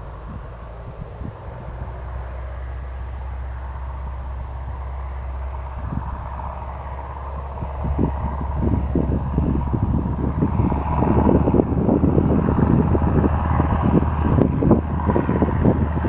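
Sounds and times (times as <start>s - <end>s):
airplane engine and propeller: 0.0s - 16.0s
wind gusting on microphone: 0.0s - 16.0s.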